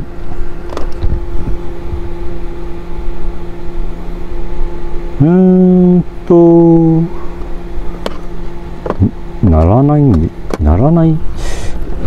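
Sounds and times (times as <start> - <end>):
loud low humming tone: 0.0 - 12.0
low electrical hum: 0.0 - 12.0.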